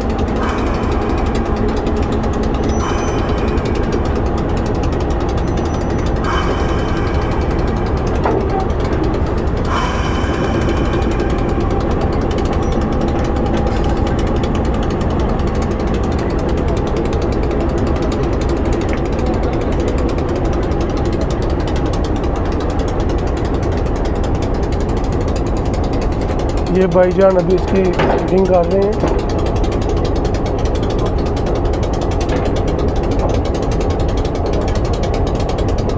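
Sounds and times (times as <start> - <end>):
diesel locomotive engine idling: 0.0 - 35.9.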